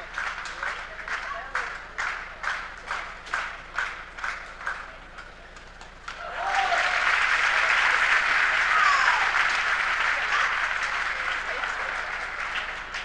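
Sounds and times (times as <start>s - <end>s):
crowd applause: 0.0s - 5.3s, 6.0s - 13.0s
spectators clapping in unison: 0.0s - 13.0s.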